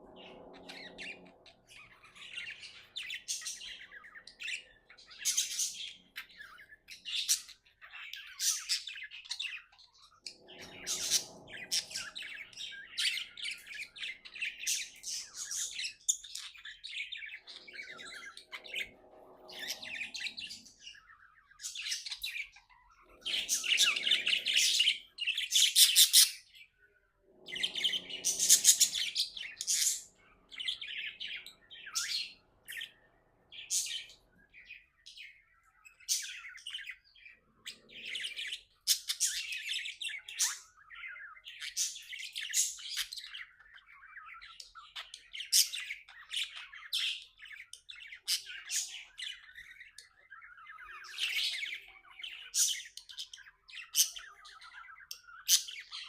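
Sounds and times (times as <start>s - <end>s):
budgerigars chirping: 0.1s - 26.8s, 27.4s - 56.0s.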